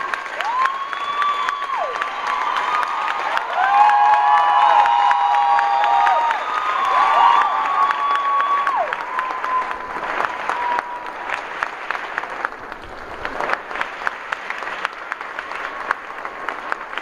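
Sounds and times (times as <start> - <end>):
audience clapping: 0.0 - 17.0.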